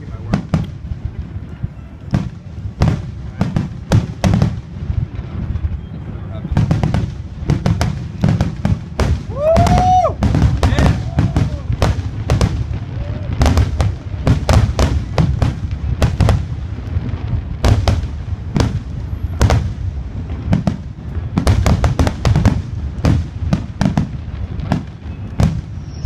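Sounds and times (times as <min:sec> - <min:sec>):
continuous low rumble: 0:00.0 - 0:26.0
firework shells bursting: 0:00.0 - 0:26.0.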